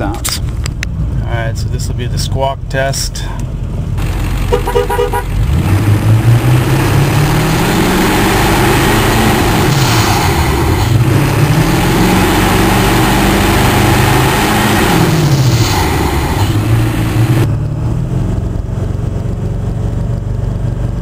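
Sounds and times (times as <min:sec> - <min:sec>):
diesel truck engine accelerating: 0:00.0 - 0:21.0.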